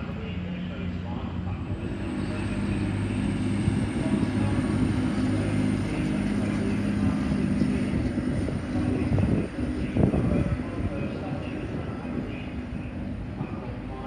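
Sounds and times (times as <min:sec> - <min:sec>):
diesel train engine droning: 0:00.0 - 0:14.0.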